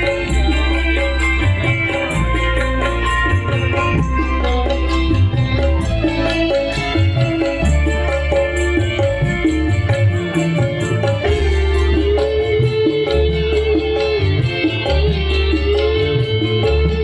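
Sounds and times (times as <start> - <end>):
deep bass: 0.0 - 17.0
fast drumming: 0.0 - 17.0
keyboard melody: 0.0 - 17.0.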